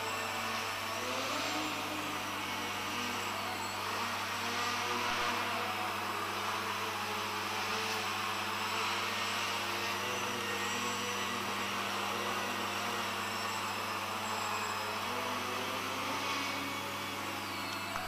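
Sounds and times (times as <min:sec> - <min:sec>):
model aircraft motor whirring: 0:00.0 - 0:18.0.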